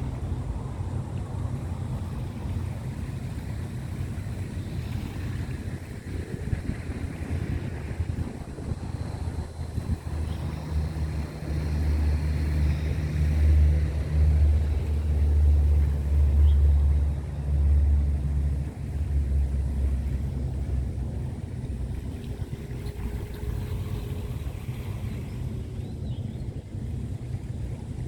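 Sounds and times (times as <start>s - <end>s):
ship engine drone: 0.0s - 28.0s.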